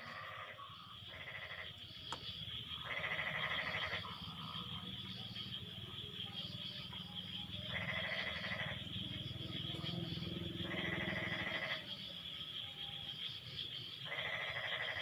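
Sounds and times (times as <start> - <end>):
frogs croaking low: 0.0 - 15.0.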